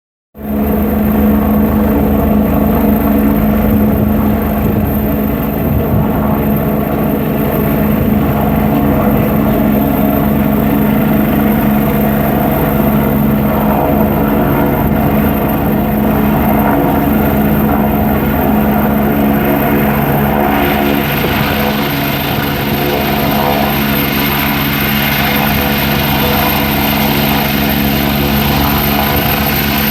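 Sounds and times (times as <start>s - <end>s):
helicopter rotor and engines: 0.4s - 29.9s.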